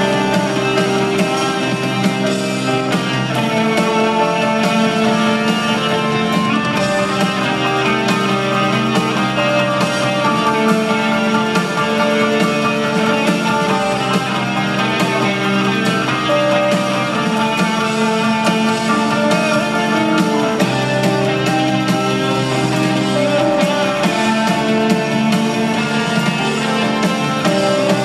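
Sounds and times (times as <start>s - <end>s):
bass line: 0.0s - 28.0s
electric guitar strummed: 0.0s - 28.0s
steady drum beat: 0.0s - 28.0s.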